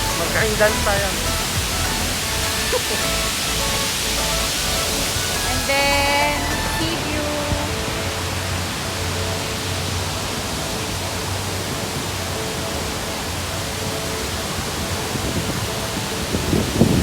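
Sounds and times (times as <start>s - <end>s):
faint music: 0.0s - 17.0s
waterfall rushing: 0.0s - 17.0s.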